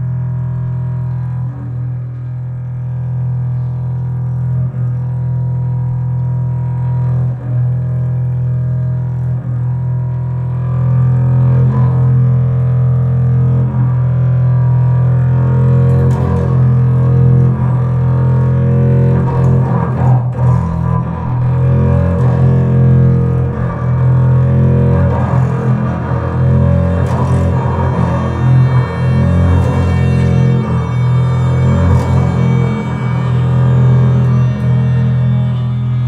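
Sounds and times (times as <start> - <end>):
double bass bowed low note: 0.0 - 36.0.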